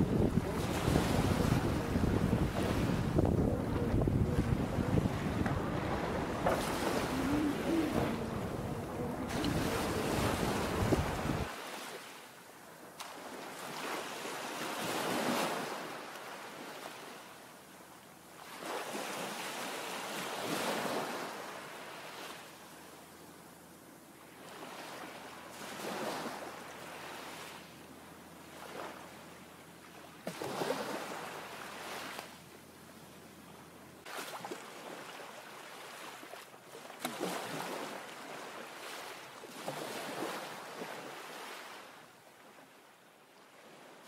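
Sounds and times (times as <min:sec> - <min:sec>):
small waves washing on shore: 0:00.0 - 0:17.4, 0:18.3 - 0:22.6, 0:24.2 - 0:32.4, 0:34.0 - 0:44.0.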